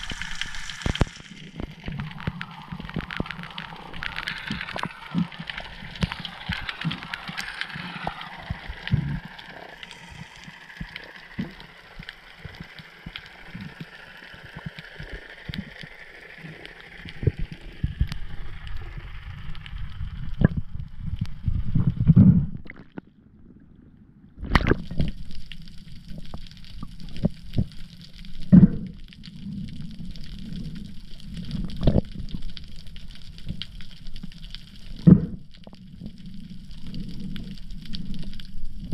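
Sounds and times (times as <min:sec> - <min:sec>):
water gurgling underwater: 0:00.0 - 0:27.8, 0:34.9 - 0:38.9
steady low rumble: 0:00.0 - 0:38.9.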